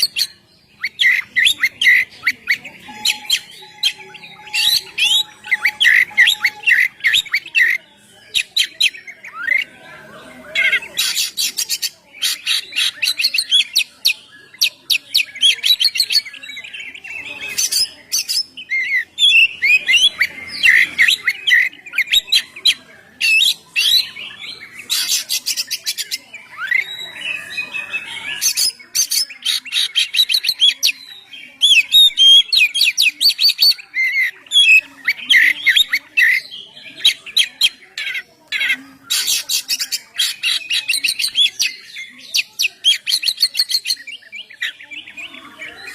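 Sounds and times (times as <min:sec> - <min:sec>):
magpie-robin singing: 0:00.0 - 0:45.9.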